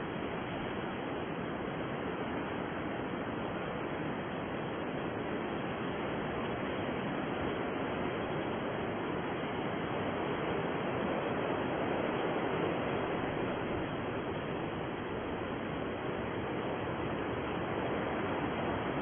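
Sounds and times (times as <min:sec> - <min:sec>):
deep white noise hiss: 0:00.0 - 0:19.0.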